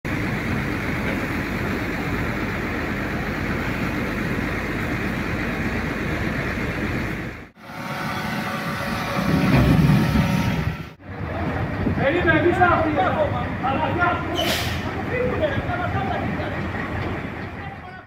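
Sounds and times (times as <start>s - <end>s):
road traffic rumble: 0.0s - 18.0s
diesel truck engine whining: 0.1s - 18.0s.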